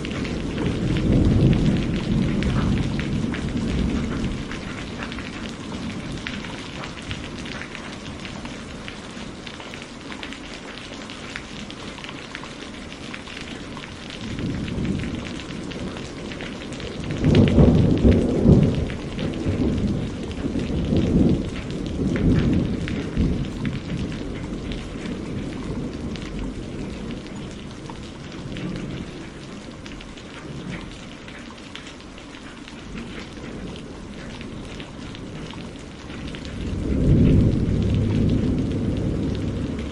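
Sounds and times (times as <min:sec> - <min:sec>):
rolling thunder: 0:00.0 - 0:10.0, 0:13.2 - 0:31.1, 0:32.8 - 0:39.9
steady rain falling: 0:00.0 - 0:39.9.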